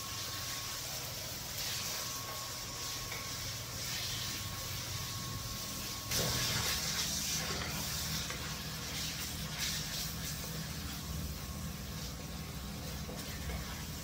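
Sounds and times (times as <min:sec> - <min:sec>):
pork sizzling in a wok: 0:00.0 - 0:14.0.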